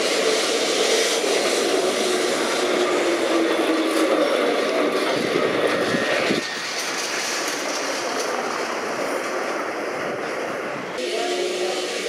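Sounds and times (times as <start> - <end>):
tram running on rails: 0.0 - 12.0.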